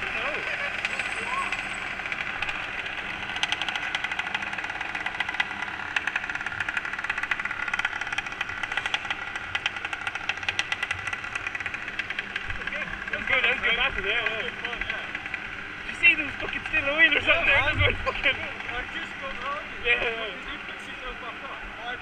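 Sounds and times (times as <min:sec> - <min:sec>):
small motorbike engines running: 0:00.0 - 0:22.0.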